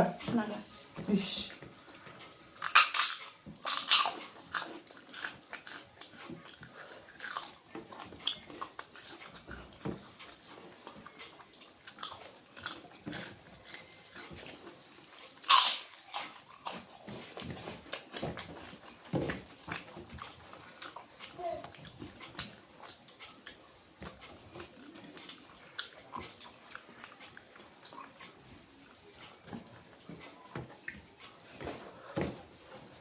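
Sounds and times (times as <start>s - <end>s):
chewing and crunching food: 0.0s - 33.0s.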